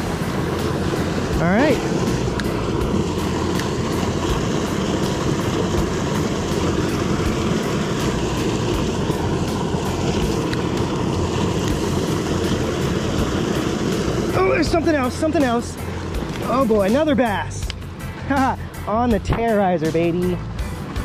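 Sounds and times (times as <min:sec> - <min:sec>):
water rushing out of pipe: 0:00.0 - 0:20.1.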